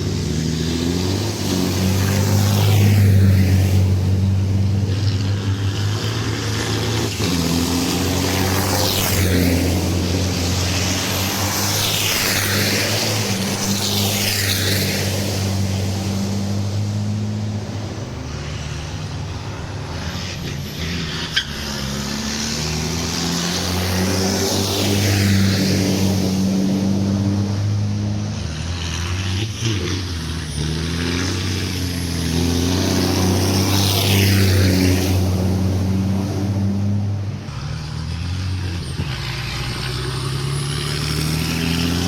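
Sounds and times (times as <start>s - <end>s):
low engine drone: 0.0s - 42.0s
racing trucks passing by: 0.0s - 42.0s.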